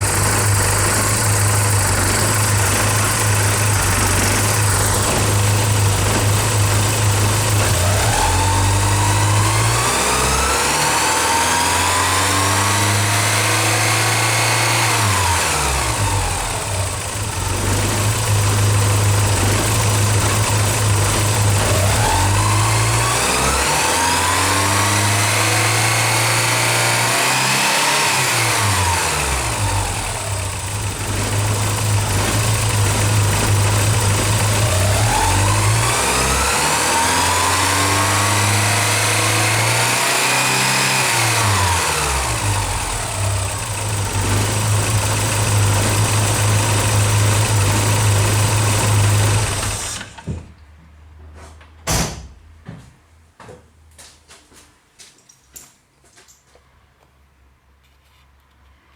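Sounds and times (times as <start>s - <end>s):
car engine idling and revving: 0.0s - 50.3s.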